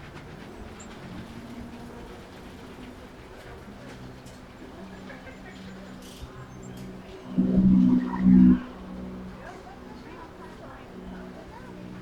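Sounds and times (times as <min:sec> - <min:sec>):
distant engine rumble: 0:00.0 - 0:11.7.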